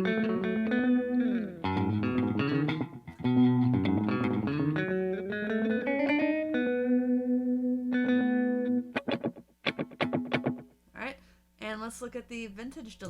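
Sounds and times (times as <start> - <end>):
electric guitar with slapback echo: 0.0 - 10.7.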